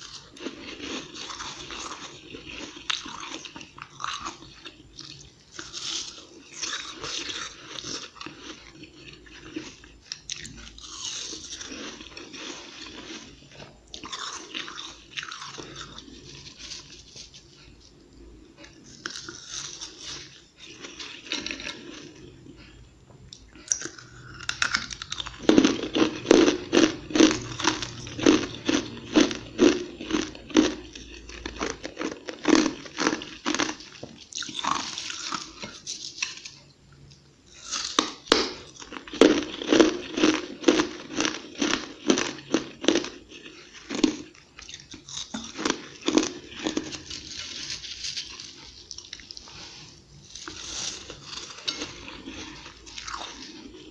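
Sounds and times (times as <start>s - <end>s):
chewing crunchy ice: 0.0s - 17.8s, 18.6s - 36.6s, 37.5s - 53.9s.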